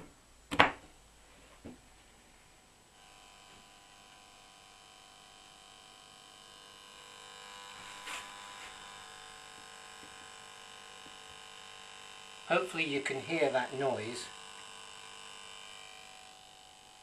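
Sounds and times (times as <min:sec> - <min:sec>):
high-pitched electrical hum: 0:00.0 - 0:17.0.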